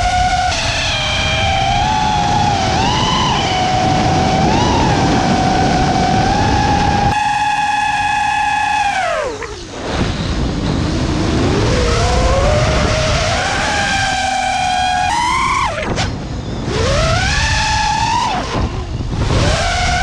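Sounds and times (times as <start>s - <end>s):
wind rushing: 0.0s - 7.4s, 9.1s - 20.0s
drone motors whining: 0.0s - 20.0s.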